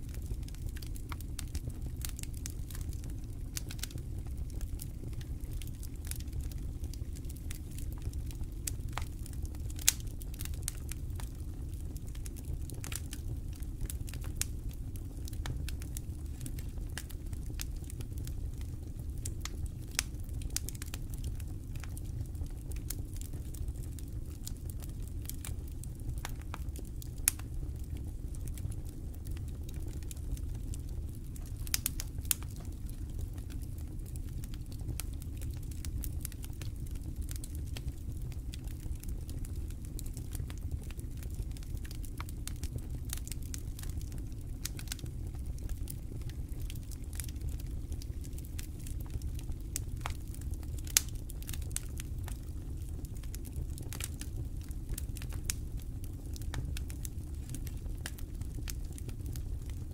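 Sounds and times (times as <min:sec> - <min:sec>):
campfire crackling and popping: 0:00.1 - 0:59.9.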